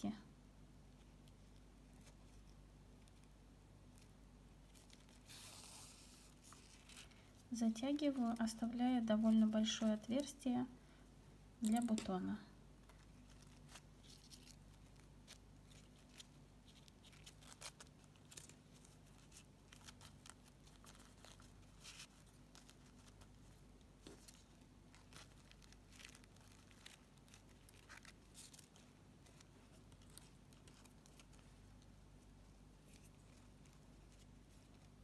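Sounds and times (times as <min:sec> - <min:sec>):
low steady hum: 0:00.0 - 0:35.0
ribbon rustling between fingers: 0:00.8 - 0:10.4, 0:11.6 - 0:35.0.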